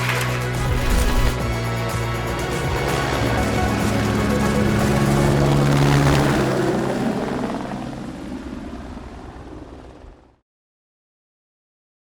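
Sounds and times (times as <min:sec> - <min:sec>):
helicopter engine and rotor: 0:00.0 - 0:10.4.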